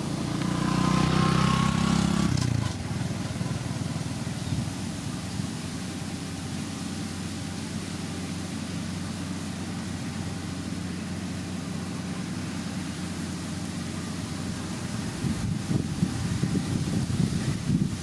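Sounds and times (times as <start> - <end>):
diesel engine running steadily: 0.0 - 18.0.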